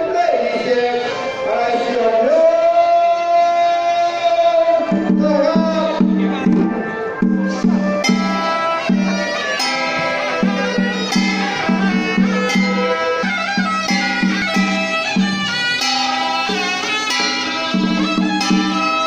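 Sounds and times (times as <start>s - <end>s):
reedy wind instrument melody: 0.8s - 19.0s.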